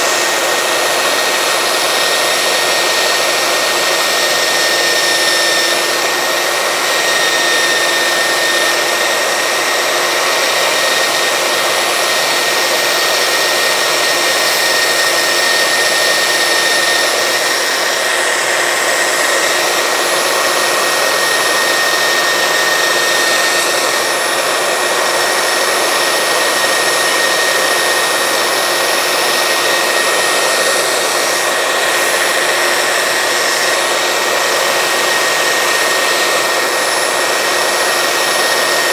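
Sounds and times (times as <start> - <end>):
belt sander running: 0.0 - 38.9
wood pressed against sanding belt: 0.0 - 38.9.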